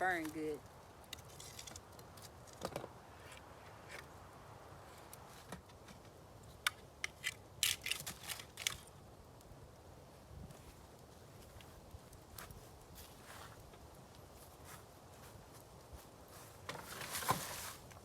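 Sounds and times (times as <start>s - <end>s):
small fire crackling: 0.0s - 18.0s.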